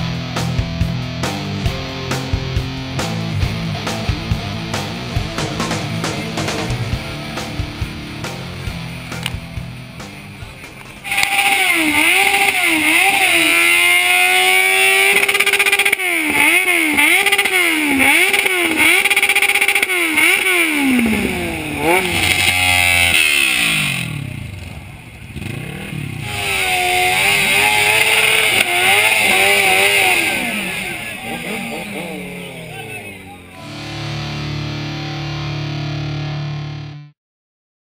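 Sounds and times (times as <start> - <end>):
motorcycle engines revving: 0.0 - 36.8.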